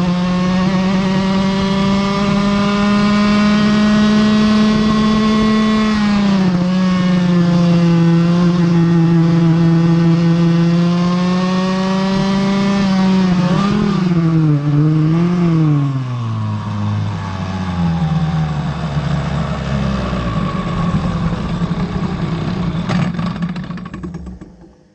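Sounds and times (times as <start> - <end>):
kart engine at high revs: 0.0 - 24.9.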